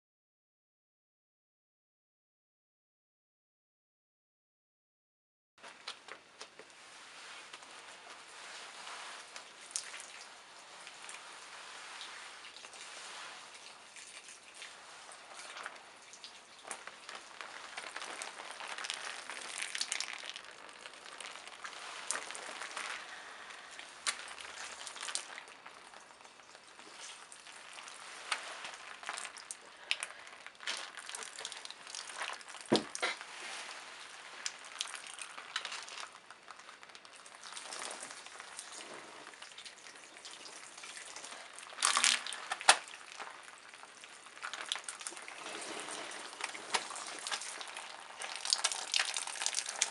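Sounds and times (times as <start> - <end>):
wet tissue crackling and rustling: 5.6 - 49.9
liquid dripping: 8.4 - 49.9.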